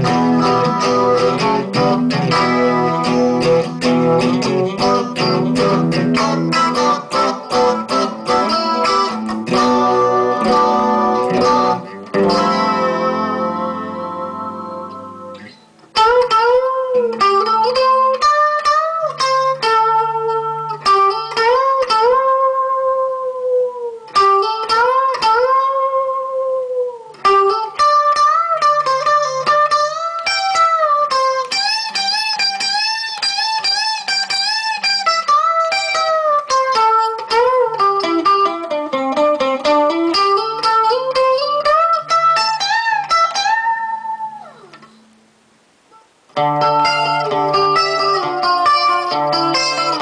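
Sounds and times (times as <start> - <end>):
electric guitar solo: 0.0 - 50.0.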